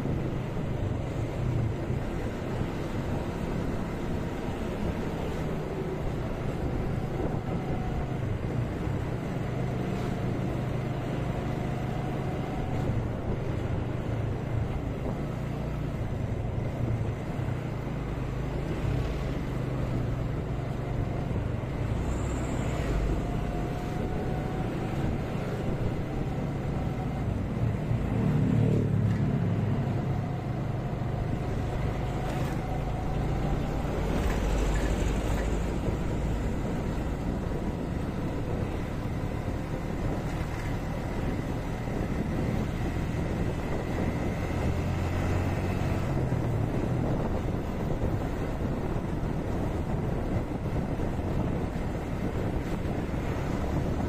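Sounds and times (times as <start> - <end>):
road noise: 0.0 - 54.0
truck engine: 0.0 - 54.0.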